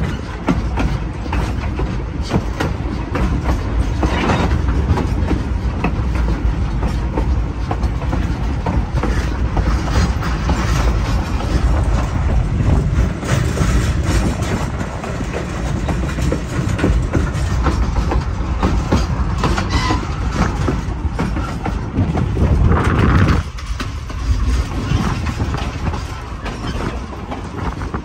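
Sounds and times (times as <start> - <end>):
train rumble: 0.0 - 28.0
wheels clattering over rail joints: 0.0 - 28.0.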